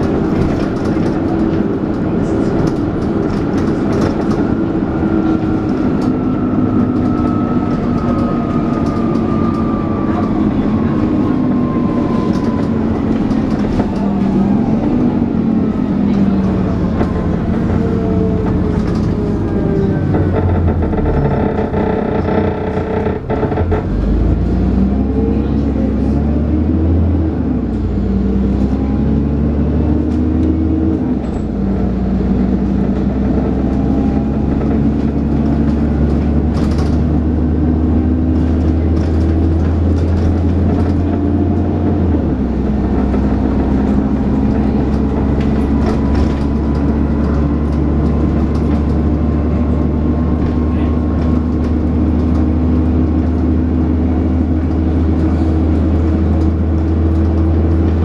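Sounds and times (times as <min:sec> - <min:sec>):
bus engine whining drone: 0:00.0 - 0:58.0.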